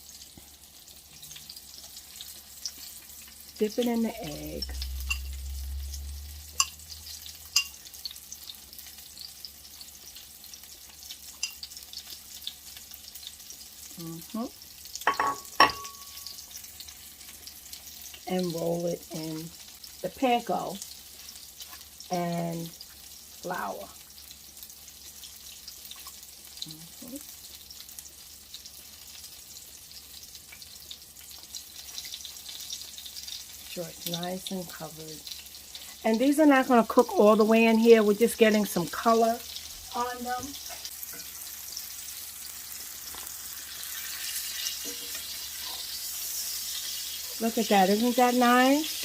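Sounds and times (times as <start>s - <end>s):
chicken frying in oil: 0.0s - 49.0s.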